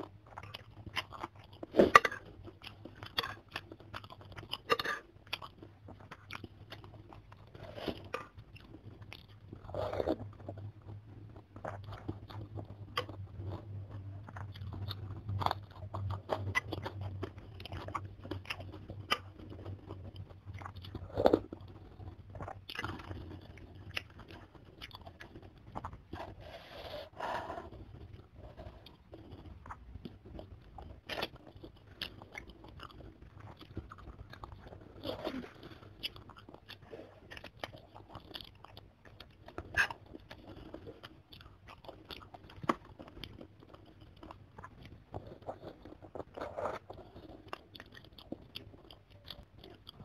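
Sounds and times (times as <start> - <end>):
faint low hum: 0.0 - 50.0
wet chewing: 0.0 - 50.0.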